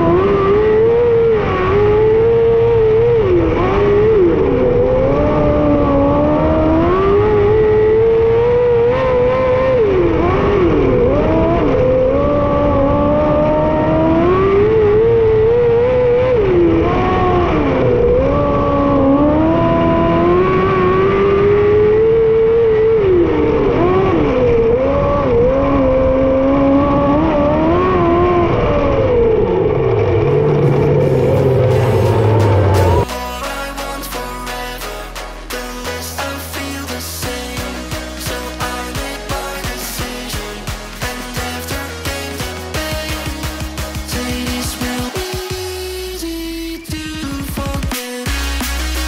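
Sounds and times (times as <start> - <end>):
racing engine revving: 0.0 - 49.0.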